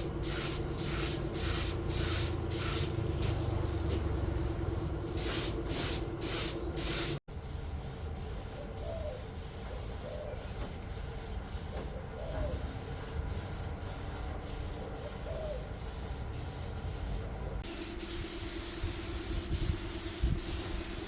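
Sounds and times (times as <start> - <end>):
paint spraying in bursts: 0.0 - 3.3, 5.1 - 21.0.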